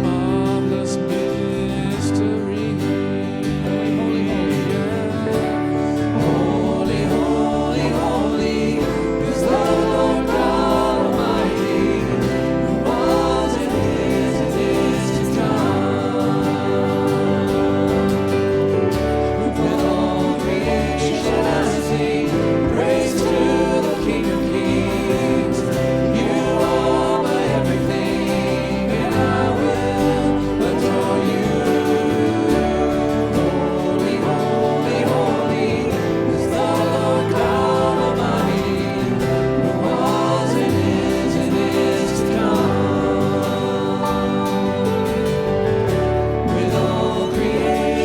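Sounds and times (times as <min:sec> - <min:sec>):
sustained instrumental accompaniment: 0:00.0 - 0:48.0
voices singing together: 0:00.0 - 0:48.0.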